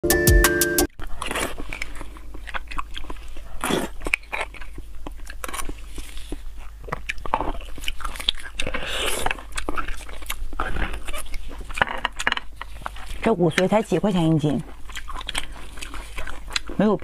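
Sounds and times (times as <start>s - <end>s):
crunching and chewing: 0.9s - 17.0s.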